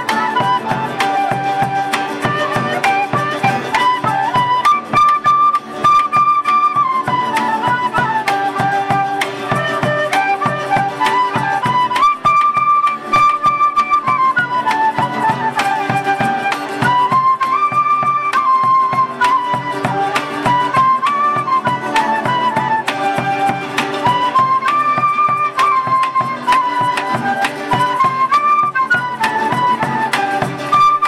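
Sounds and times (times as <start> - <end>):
flute melody: 0.0 - 31.0
strummed strings: 0.0 - 31.0.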